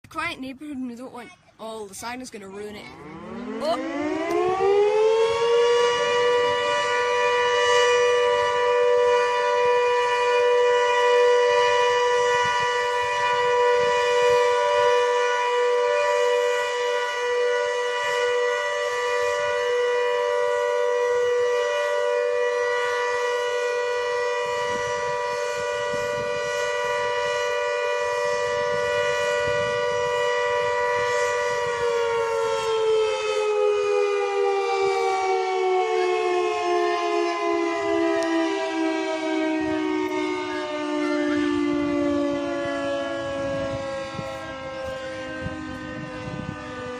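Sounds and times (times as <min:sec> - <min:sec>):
siren wailing: 0:02.5 - 0:46.9.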